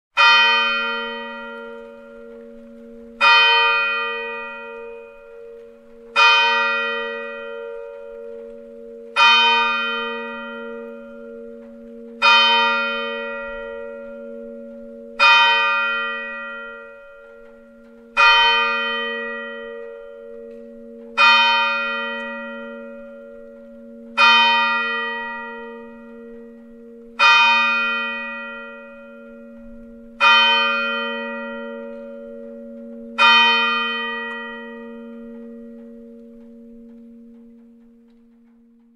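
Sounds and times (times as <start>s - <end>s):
church bell tolling: 0.1s - 38.9s.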